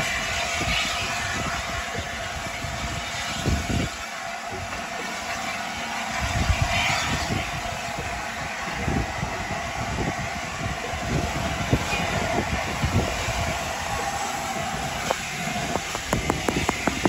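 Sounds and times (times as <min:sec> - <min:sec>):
locomotive low rumble: 0:00.0 - 0:17.0
steam hissing: 0:00.0 - 0:17.0.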